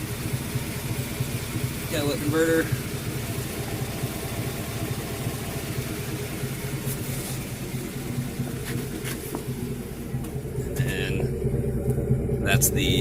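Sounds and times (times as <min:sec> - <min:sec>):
pickup truck idling: 0:00.0 - 0:13.0.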